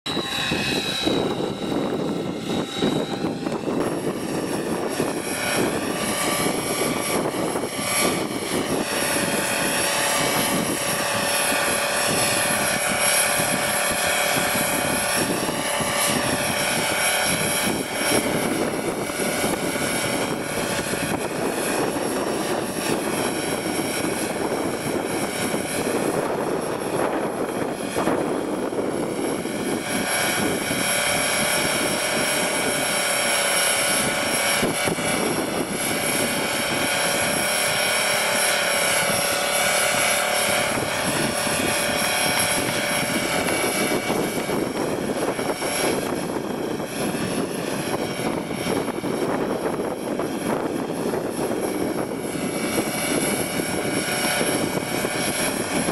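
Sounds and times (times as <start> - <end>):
model helicopter rotor whine: 0.1 - 55.9
wind rumbling on microphone: 0.1 - 55.9.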